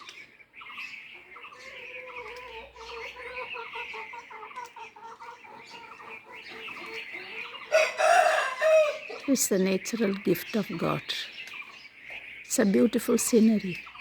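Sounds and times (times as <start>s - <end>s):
chickens clucking: 0.0s - 14.0s
small birds chirping: 0.0s - 14.0s.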